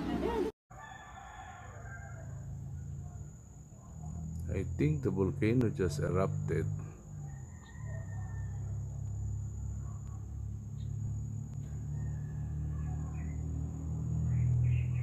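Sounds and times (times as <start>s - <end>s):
crickets trilling: 1.6s - 15.0s.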